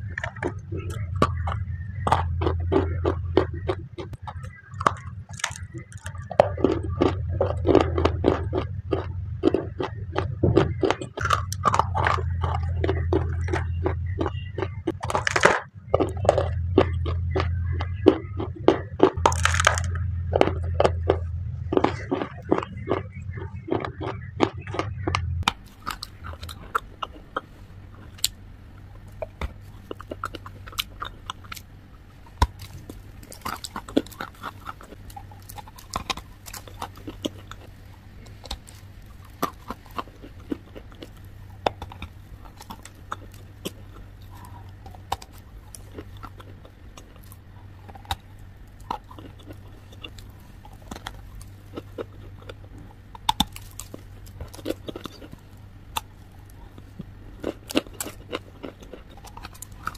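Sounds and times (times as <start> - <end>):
chewing crunchy clay: 0.0 - 59.9
low hum: 0.0 - 59.9.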